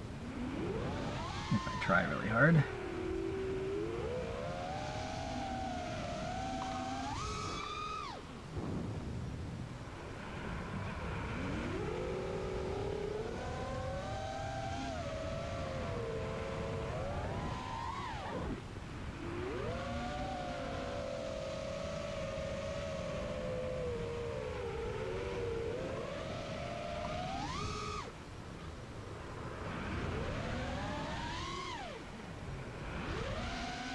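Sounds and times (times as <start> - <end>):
drone motors whining: 0.0 - 33.9
wind rumble on microphone: 0.0 - 33.9.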